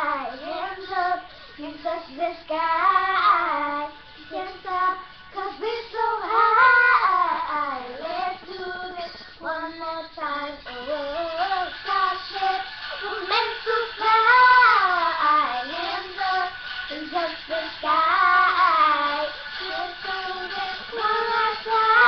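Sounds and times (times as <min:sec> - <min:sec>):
girls singing wordless notes: 0:00.0 - 0:22.0
pop song: 0:00.0 - 0:22.0.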